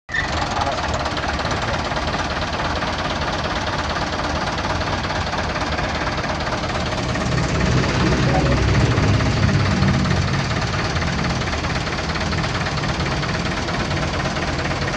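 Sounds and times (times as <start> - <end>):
diesel truck engine idling: 0.1 - 14.9.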